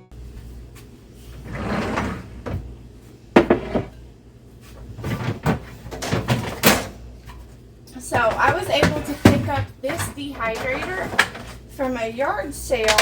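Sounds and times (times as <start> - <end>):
scraping in a kitchen: 0.2 - 12.1.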